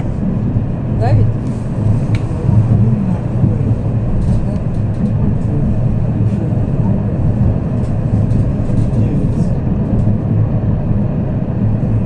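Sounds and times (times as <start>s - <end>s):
tram rumbling on track: 0.0s - 12.0s.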